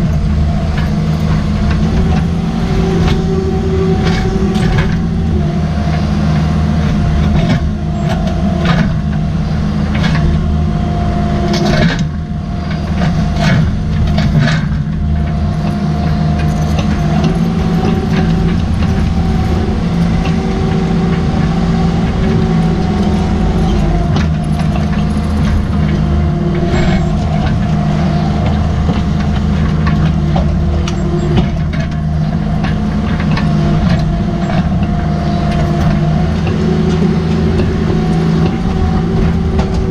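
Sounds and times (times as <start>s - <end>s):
diesel engine running under load: 0.0s - 39.9s
steady whine: 0.0s - 39.9s.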